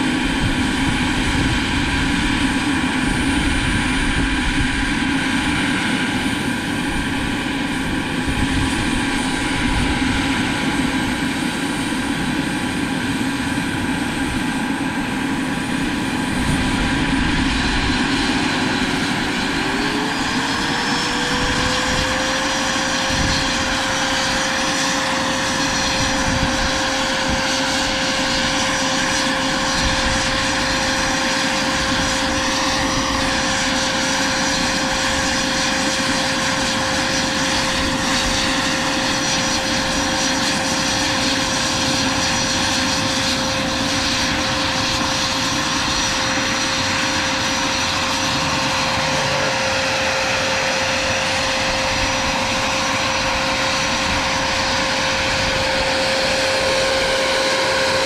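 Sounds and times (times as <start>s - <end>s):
gas turbine whine: 0.0s - 58.0s.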